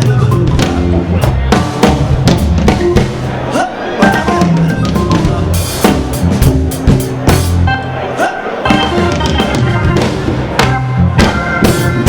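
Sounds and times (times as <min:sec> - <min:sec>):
drum kit playing a groove: 0:00.0 - 0:12.0
organ chords: 0:00.0 - 0:12.0.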